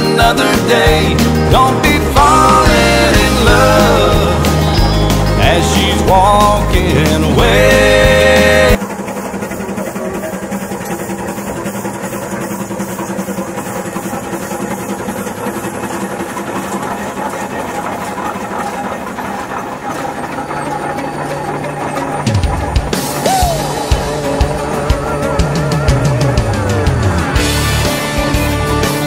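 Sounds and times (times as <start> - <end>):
steam engine running: 0.0 - 29.0.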